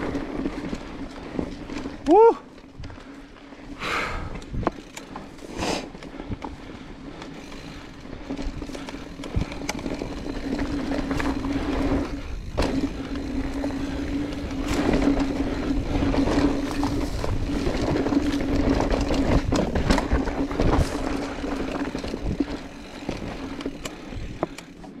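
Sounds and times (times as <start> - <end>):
bike wheels buzzing hum: 0.0 - 25.0
rumble: 0.0 - 25.0
wind: 0.0 - 25.0
wheels knocking on rocks: 4.3 - 25.0.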